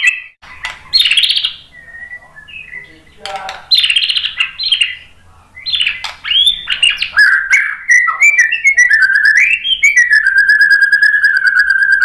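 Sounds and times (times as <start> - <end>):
songbird singing whistled phrases: 0.0 - 12.0.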